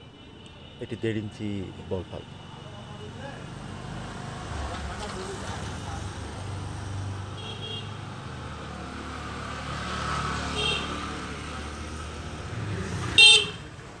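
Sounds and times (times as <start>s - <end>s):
street traffic din: 0.0s - 14.0s.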